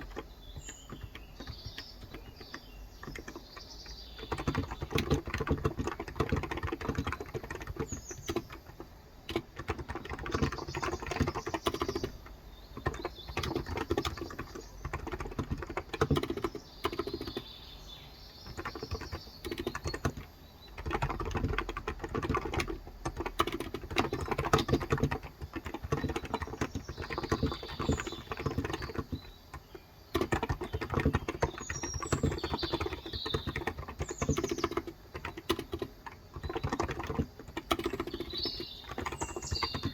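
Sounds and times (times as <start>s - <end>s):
keyboard typing: 0.0s - 17.5s, 18.4s - 39.9s
birds chirping faintly: 0.0s - 39.9s.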